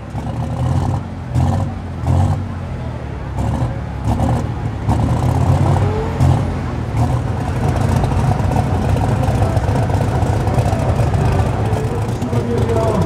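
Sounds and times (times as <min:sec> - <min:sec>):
diesel engine running loudly: 0:00.0 - 0:13.0.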